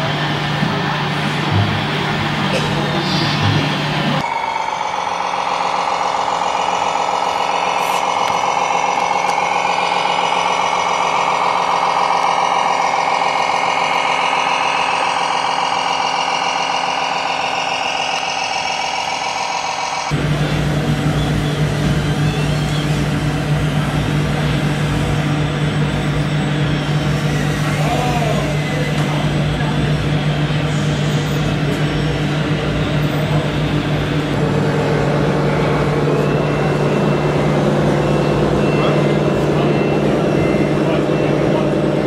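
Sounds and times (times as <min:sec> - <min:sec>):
model trucks engine drone: 0:00.0 - 0:42.0.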